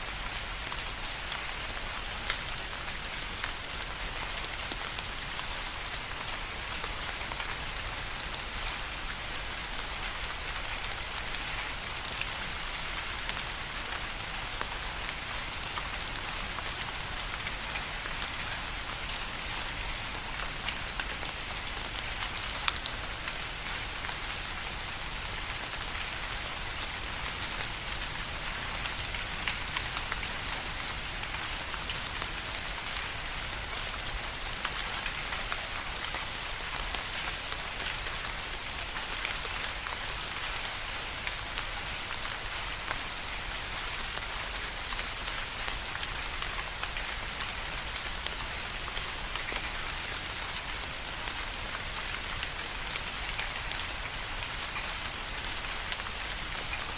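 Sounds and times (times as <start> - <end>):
raindrops pattering and ticking: 0.0 - 56.9
steady rain falling: 0.0 - 56.9.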